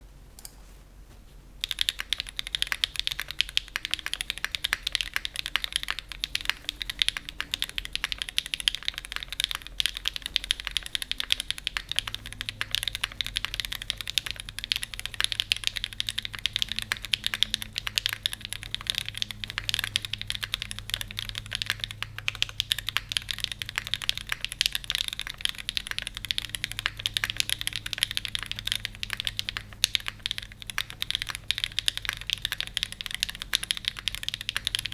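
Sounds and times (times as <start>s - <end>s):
fast typing on mechanical keyboard: 1.6s - 34.9s.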